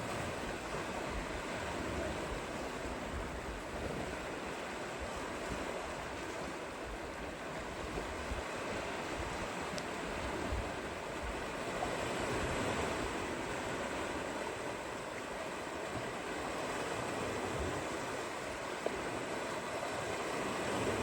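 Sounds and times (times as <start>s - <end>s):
surf rushing on shore: 0.0s - 21.0s.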